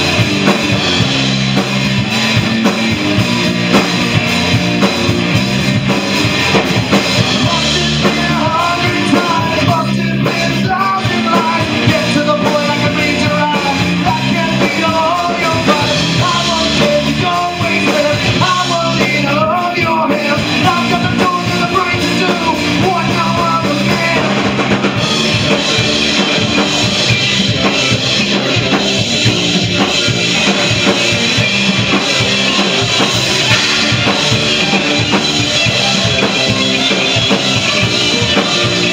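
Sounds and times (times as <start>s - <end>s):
drum kit: 0.0s - 38.9s
electric bass: 0.0s - 38.9s
electric guitar: 0.0s - 38.9s.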